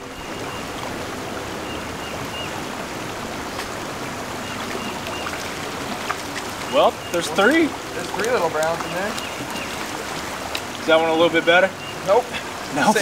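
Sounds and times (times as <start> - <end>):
creek running water: 0.0 - 13.0.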